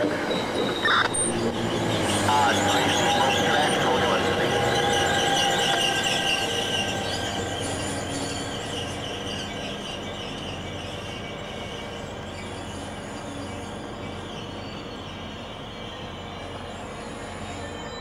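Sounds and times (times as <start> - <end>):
train rumble: 0.0 - 18.0
wheels squealing: 0.0 - 18.0.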